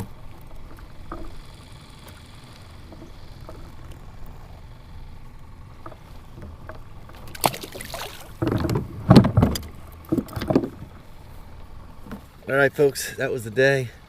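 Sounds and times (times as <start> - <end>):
low steady hiss: 0.0 - 14.0
water sounds: 0.0 - 14.0.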